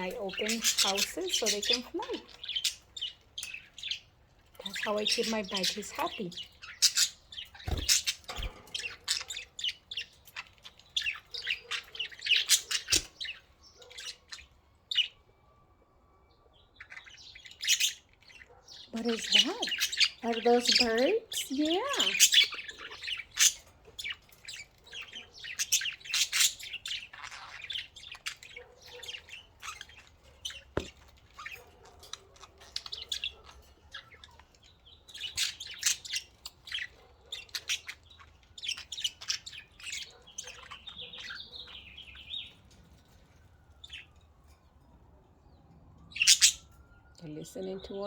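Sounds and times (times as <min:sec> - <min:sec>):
budgies chirping and chattering: 0:00.0 - 0:15.6, 0:16.4 - 0:44.6, 0:45.5 - 0:48.0.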